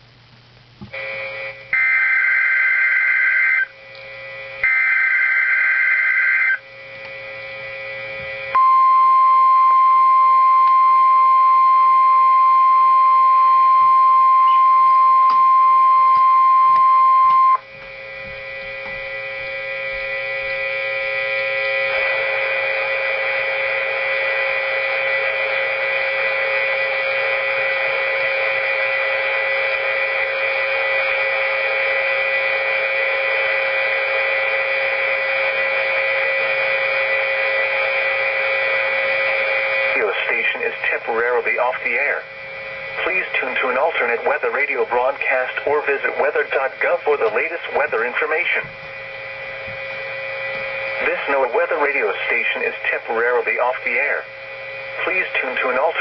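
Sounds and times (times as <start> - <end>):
radio static with faint hum: 0.0 - 56.0.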